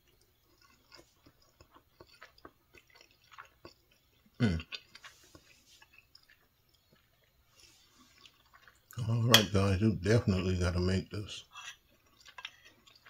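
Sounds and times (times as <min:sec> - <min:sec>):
person chewing food: 0:00.0 - 0:10.6, 0:11.4 - 0:13.0.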